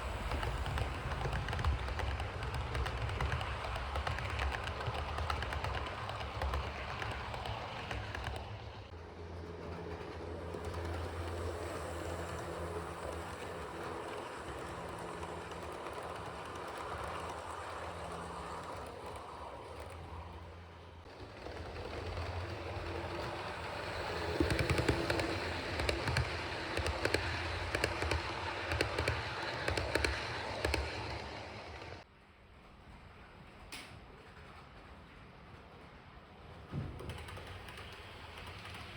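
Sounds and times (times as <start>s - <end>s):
model train motor hum: 0.0s - 32.0s
wheels clicking over rails: 0.0s - 38.9s.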